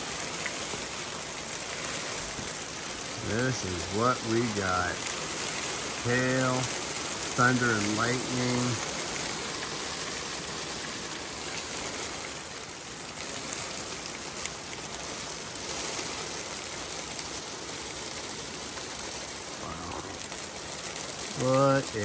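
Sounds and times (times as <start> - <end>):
heavy rain hissing: 0.0 - 22.0
hail ticking: 0.2 - 22.0.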